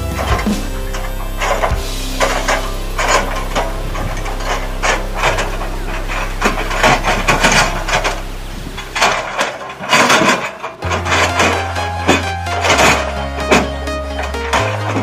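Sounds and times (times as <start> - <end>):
excavator humming: 0.0 - 15.0.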